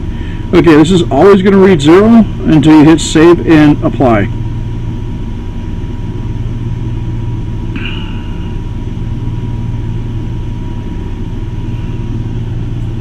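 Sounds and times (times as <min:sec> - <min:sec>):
low mechanical hum: 0:00.0 - 0:13.0
thin constant tone: 0:00.0 - 0:13.0.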